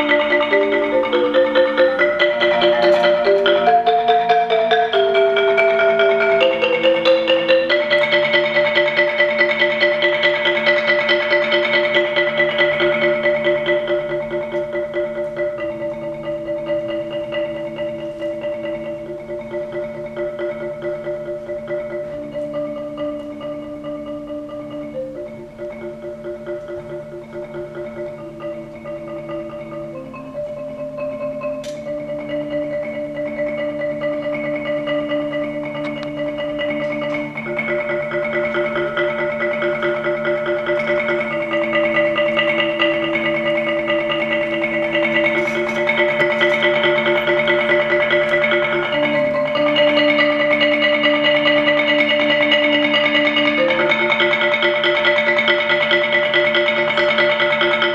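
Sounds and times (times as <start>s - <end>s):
marimba rolled chords: 0.0s - 57.9s.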